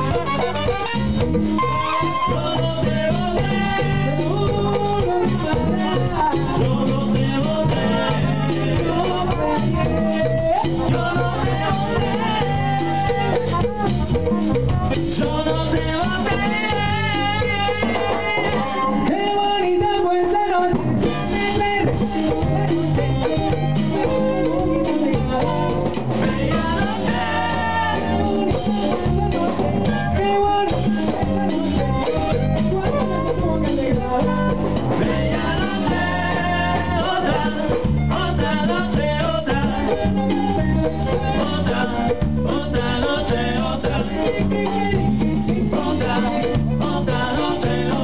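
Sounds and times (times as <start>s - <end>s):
latin dance band playing: 0.0s - 48.0s
person singing: 1.7s - 48.0s.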